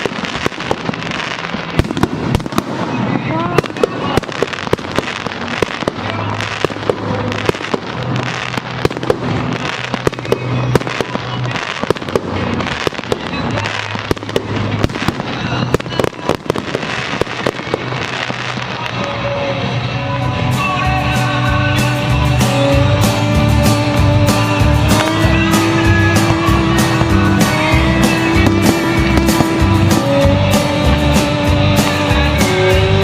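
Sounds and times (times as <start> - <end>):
fireworks banging and crackling: 0.0 - 33.0
music: 0.0 - 33.0.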